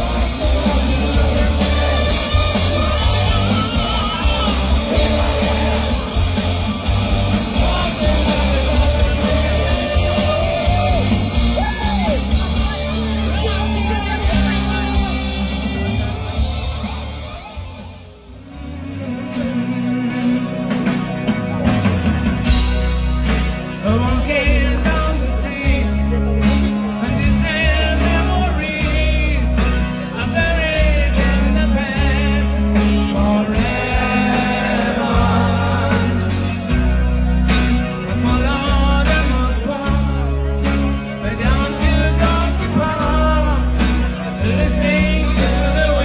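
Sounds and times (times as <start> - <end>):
live hard rock band: 0.0 - 46.0.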